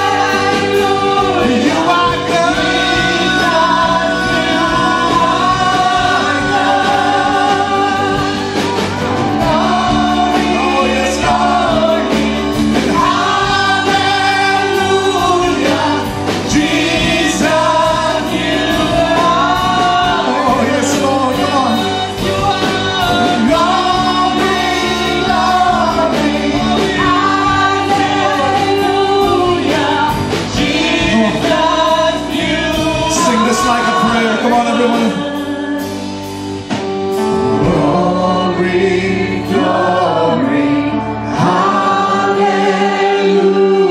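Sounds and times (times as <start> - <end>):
band with electric guitars: 0.0 - 43.9
group singing worship music: 0.0 - 43.9.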